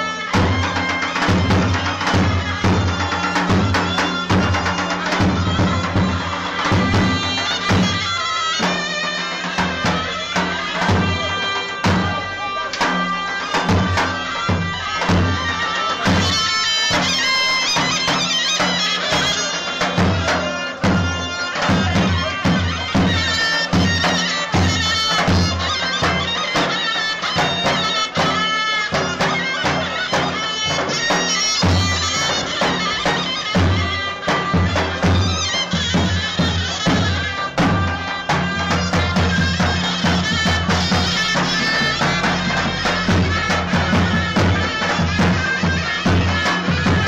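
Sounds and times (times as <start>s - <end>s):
reed wind instrument melody: 0.0s - 47.0s.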